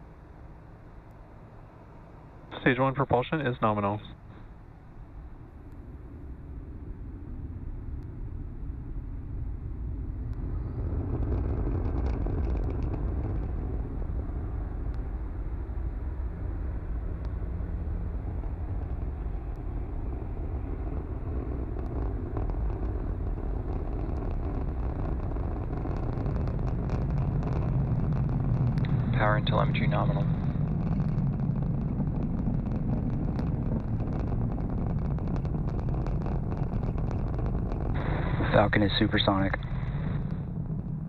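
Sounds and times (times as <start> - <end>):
rocket engines roaring: 0.0 - 41.0.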